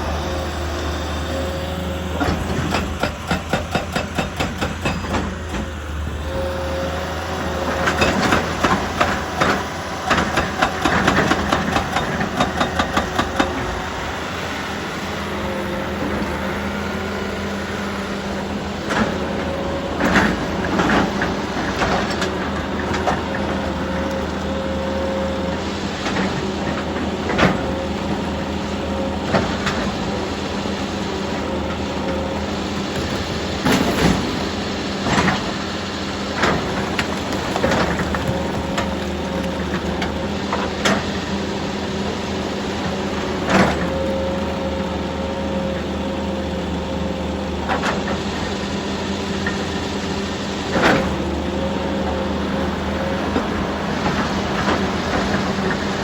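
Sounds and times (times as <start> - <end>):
diesel machinery humming: 0.0 - 56.0.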